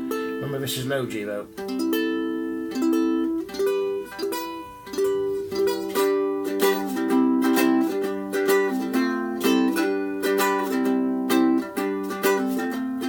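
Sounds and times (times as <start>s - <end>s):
ukulele strummed chords: 0.0s - 13.0s.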